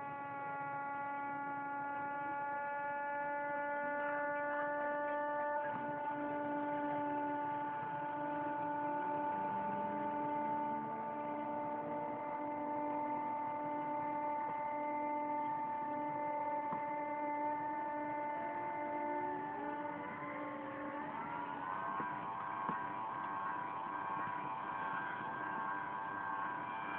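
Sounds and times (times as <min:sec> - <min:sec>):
electrical whine: 0:00.0 - 0:26.9.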